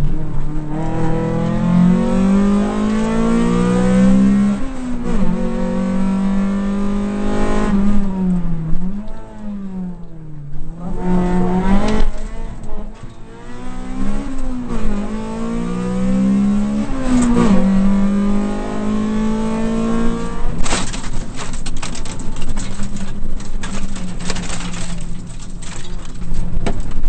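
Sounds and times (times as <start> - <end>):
rally car engine revving: 0.0 - 26.6.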